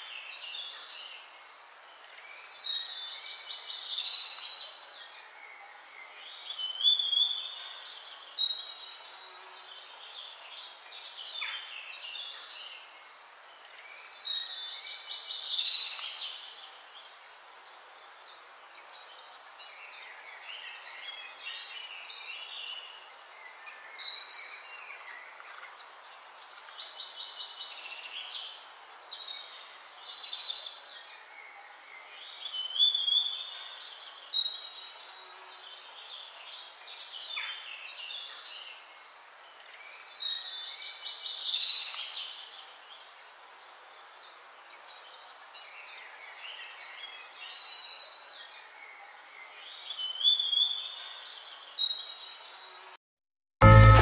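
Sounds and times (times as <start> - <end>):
faint hiss: 0.0 - 53.0
songbirds singing: 0.0 - 53.0.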